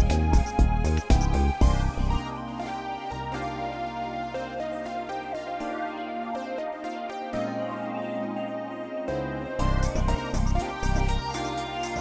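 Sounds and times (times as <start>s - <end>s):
instrumental music with pulsing bass: 0.0s - 12.0s.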